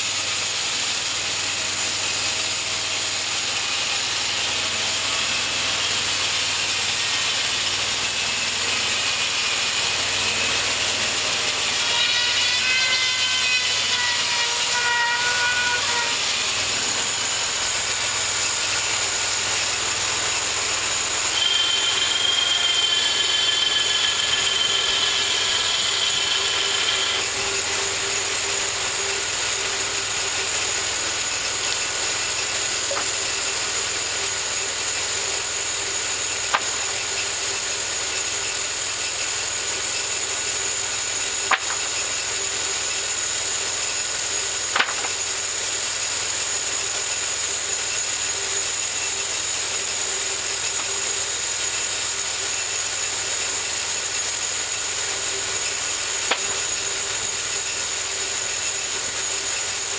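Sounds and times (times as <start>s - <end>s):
bandsaw blade sawing log: 0.0s - 59.9s.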